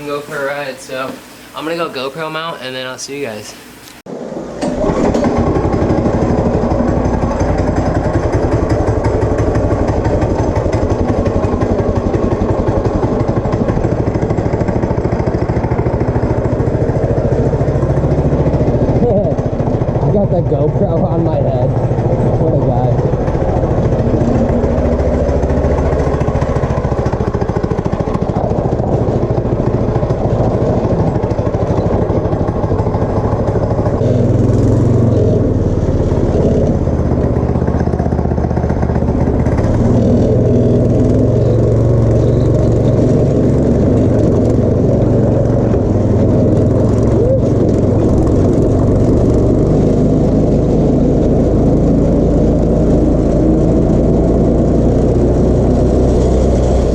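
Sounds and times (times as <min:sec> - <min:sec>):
go-kart engine revving: 0:04.5 - 0:56.9.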